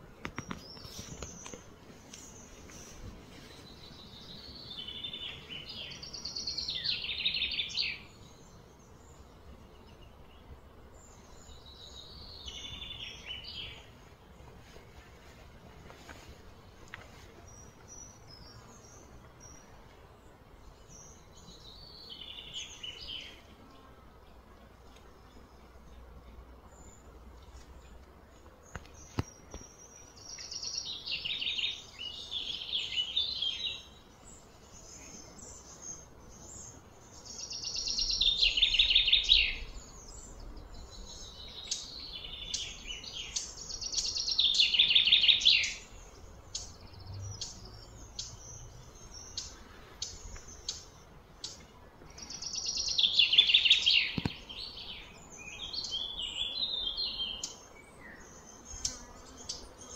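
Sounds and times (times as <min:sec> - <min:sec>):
low outdoor background: 0:00.0 - 0:59.9.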